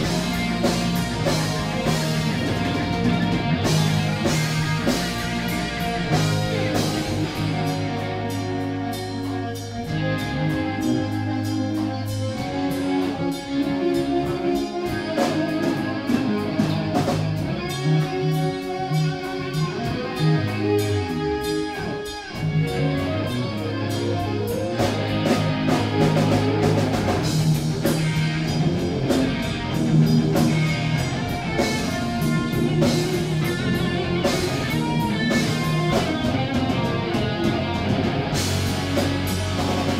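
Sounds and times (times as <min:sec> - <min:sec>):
drum kit: 0:00.0 - 0:39.9
electric bass: 0:00.0 - 0:39.9
electric guitars: 0:00.0 - 0:39.9.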